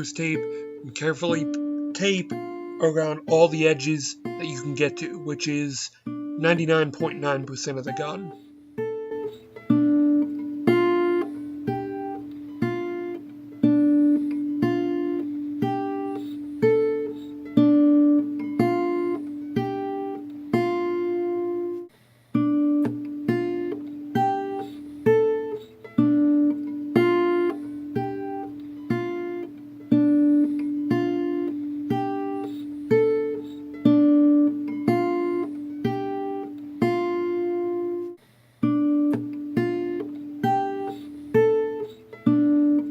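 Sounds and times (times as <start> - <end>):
plucked acoustic guitar: 0.0 - 42.9.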